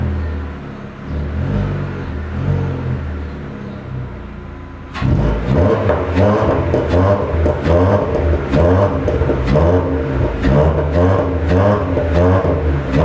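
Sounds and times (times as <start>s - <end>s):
car exhaust rumbling: 0.0s - 13.0s.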